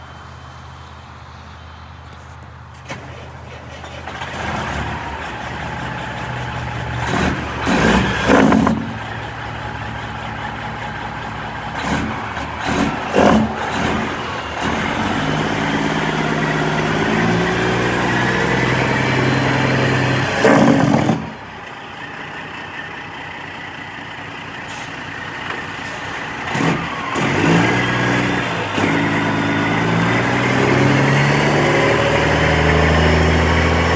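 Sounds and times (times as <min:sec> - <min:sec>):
diesel truck engine revving: 0:02.7 - 0:33.9.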